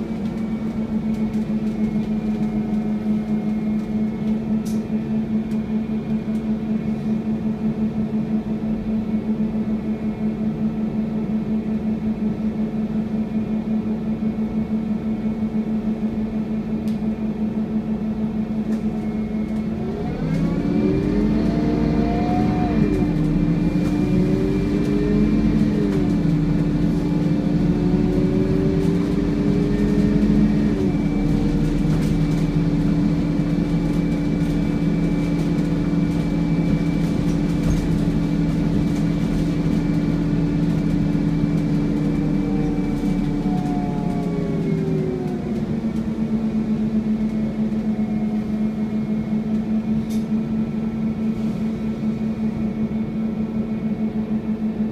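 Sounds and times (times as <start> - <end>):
bus engine: 0.0 - 54.9
bus whine: 0.0 - 54.9.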